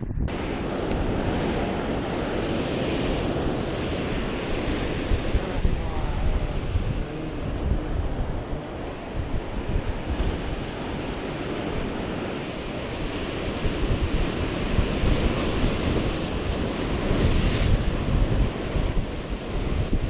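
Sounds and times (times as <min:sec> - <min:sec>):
waves breaking over rocks: 0:00.3 - 0:20.0.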